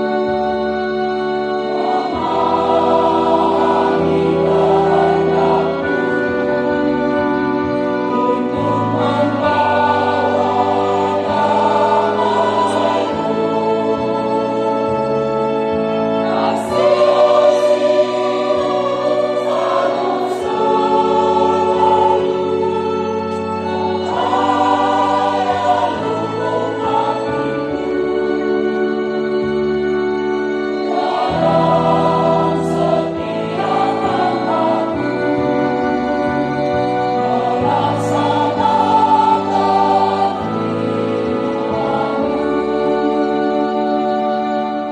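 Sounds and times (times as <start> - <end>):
church choir singing a hymn: 0.0 - 44.9.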